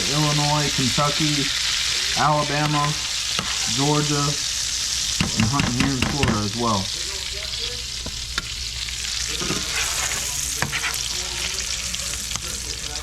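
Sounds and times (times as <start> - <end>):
fish frying in a pan: 0.0 - 13.0.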